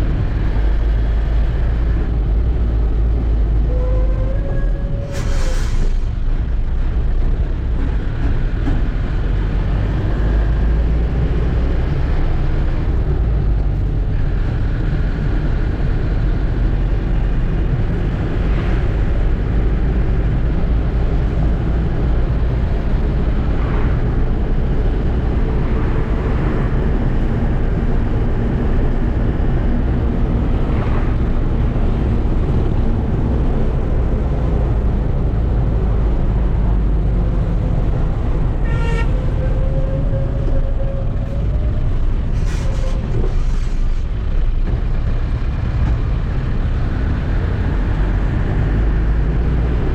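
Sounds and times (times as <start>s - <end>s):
truck engine rumbling: 0.0s - 49.9s.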